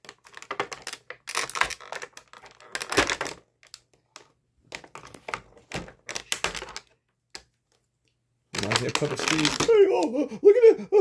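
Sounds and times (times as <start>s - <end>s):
plastic crackling: 0.0s - 10.1s.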